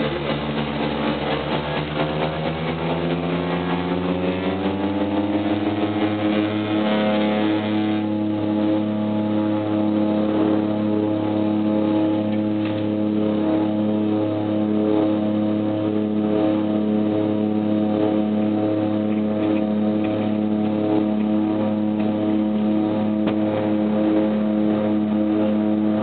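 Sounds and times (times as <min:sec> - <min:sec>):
light aircraft engine droning: 0:00.0 - 0:26.0.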